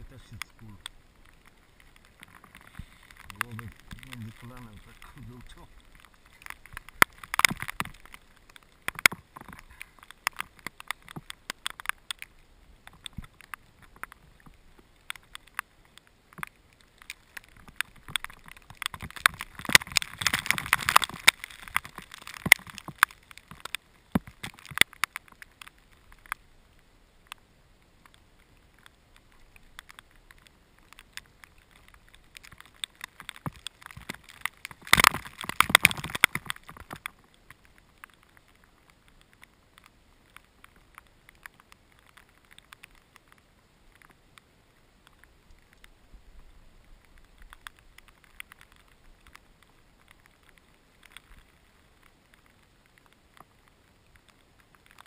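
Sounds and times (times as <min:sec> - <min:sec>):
raindrops ticking on camera: 0:00.0 - 0:55.0.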